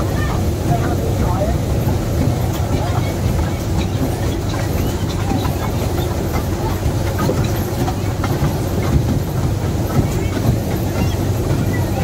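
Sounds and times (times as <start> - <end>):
toy train rumbling on track: 0.0 - 12.0
wheels clicking on rails: 0.0 - 12.0.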